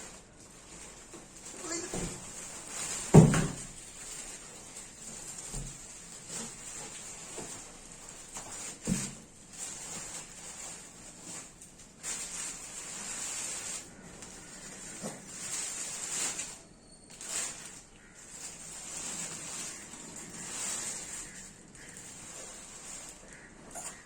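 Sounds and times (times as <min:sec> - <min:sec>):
rustling hissing noise: 0:00.0 - 0:24.0.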